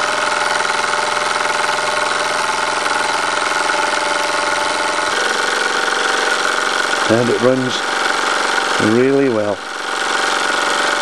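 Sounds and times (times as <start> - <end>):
toy steam engine running: 0.0 - 11.0.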